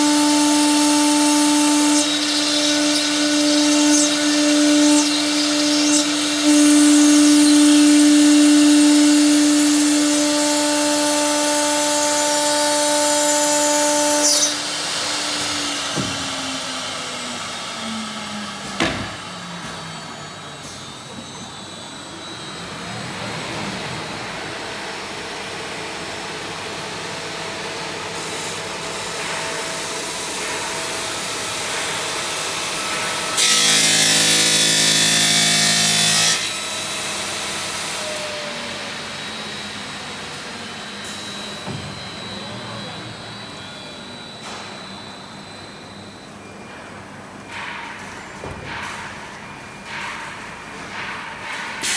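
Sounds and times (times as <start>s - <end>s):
stone saw whining: 0.0s - 51.9s.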